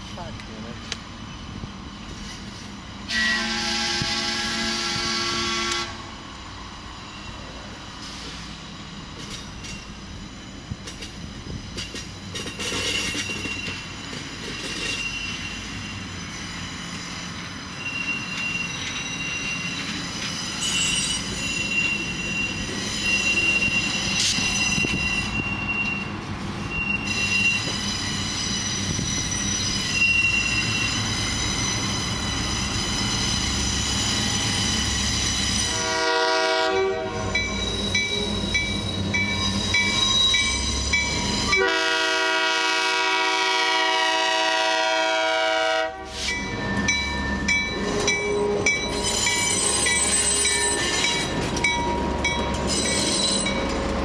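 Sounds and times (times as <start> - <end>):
diesel locomotive rumble: 0.0 - 54.0
wheel flanges squealing on rail: 0.1 - 54.0.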